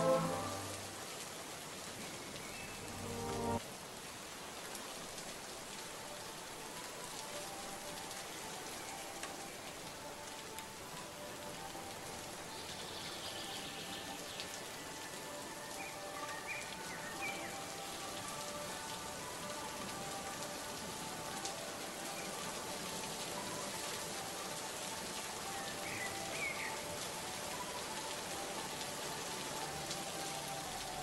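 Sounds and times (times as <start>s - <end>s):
faint sustained music tones: 0.0s - 3.6s, 5.2s - 31.0s
rain falling: 0.0s - 31.0s.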